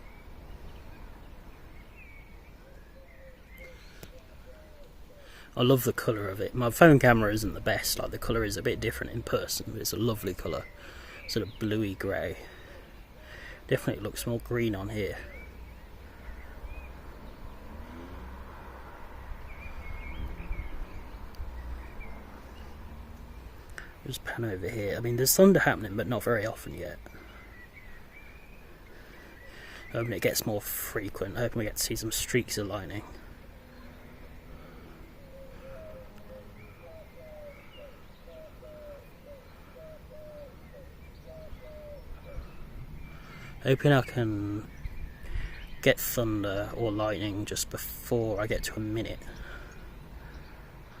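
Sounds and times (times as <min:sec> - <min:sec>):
bird chirps: 0:00.0 - 0:51.0
low outdoor rumble: 0:00.0 - 0:51.0.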